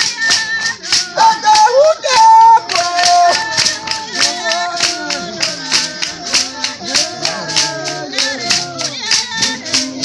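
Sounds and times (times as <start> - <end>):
fast hand clapping: 0.0 - 10.0
group of people singing: 0.0 - 10.0.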